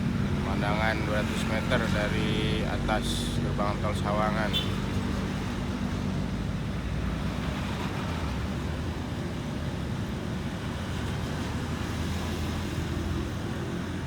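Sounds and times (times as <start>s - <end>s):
vehicle engines running low: 0.0s - 14.0s.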